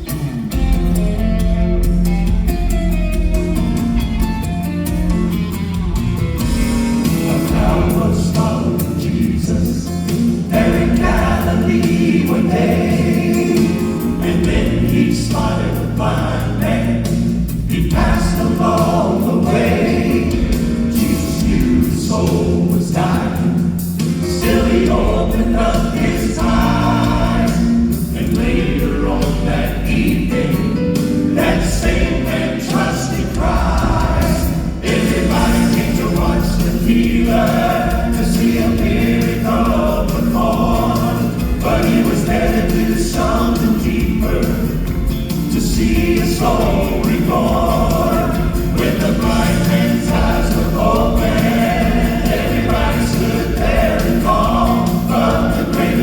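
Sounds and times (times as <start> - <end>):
instrumental accompaniment: 0.0 - 56.0
vocal group singing in harmony: 5.3 - 56.0.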